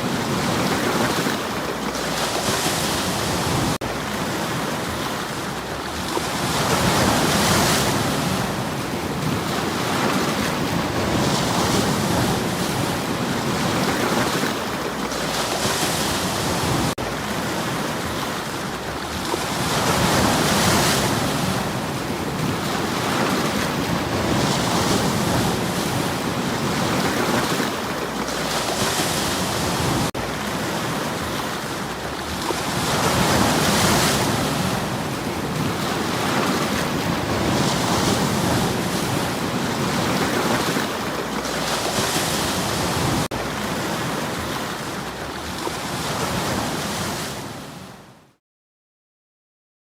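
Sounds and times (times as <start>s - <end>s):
waves washing over stones: 0.0s - 47.7s.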